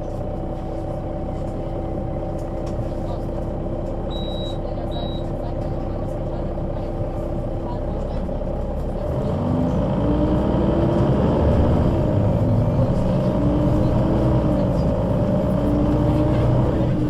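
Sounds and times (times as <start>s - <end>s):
bus engine pulling away: 0.0s - 17.0s.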